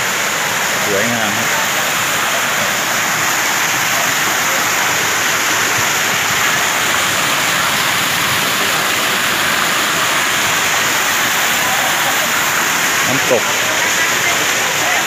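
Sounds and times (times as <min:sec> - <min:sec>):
waterfall splashing: 0:00.0 - 0:15.0.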